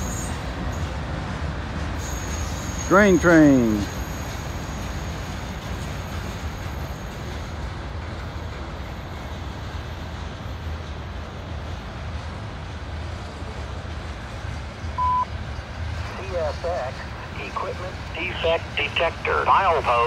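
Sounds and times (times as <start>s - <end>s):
freight train rolling on rails: 0.0s - 20.0s.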